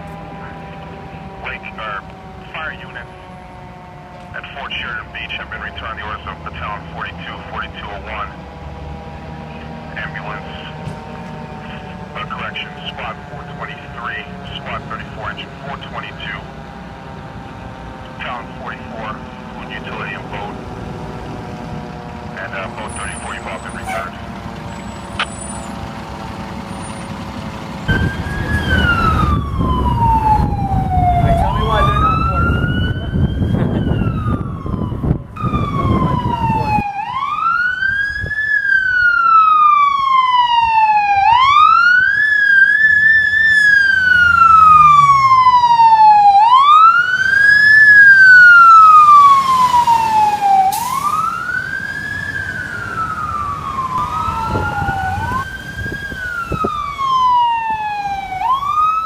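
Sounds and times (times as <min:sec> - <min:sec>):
heavy engine rumble: 0:00.0 - 0:36.9, 0:42.6 - 0:58.6
fire truck siren wailing: 0:00.0 - 0:59.0.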